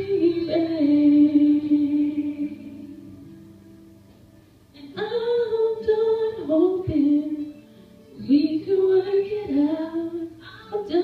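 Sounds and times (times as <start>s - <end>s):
woman singing into a microphone: 0.0s - 3.2s, 4.8s - 11.0s.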